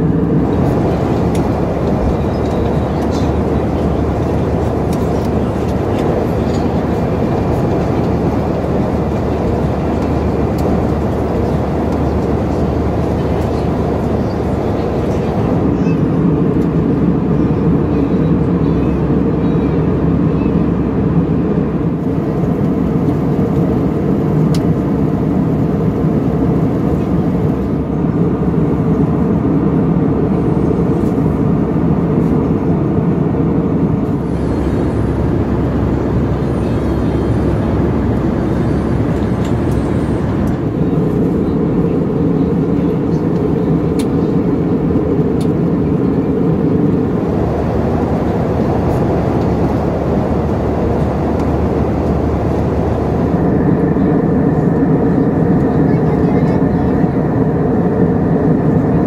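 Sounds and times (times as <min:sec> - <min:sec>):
airplane cabin drone: 0:00.0 - 0:59.0.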